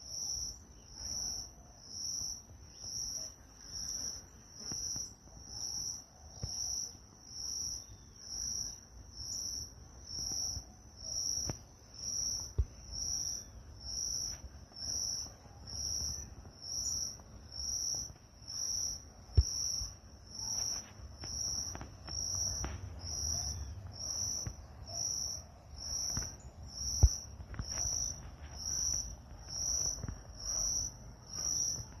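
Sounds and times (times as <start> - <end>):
insect chirping: 0.0 - 32.0.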